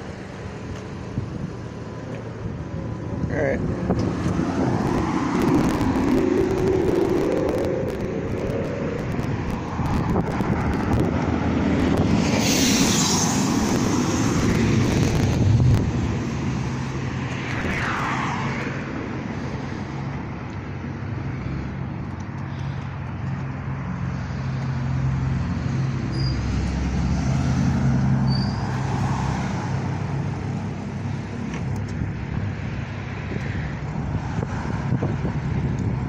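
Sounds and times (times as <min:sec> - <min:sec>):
cars passing: 0:00.0 - 0:36.0
low engine hum: 0:00.0 - 0:36.0.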